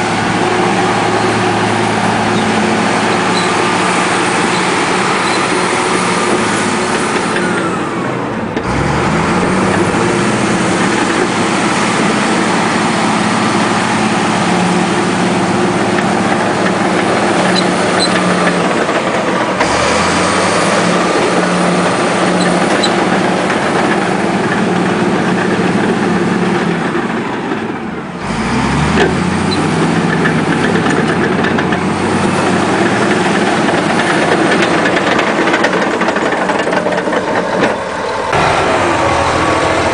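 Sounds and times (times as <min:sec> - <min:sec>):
bulldozer diesel engine clattering: 0:00.0 - 0:39.9.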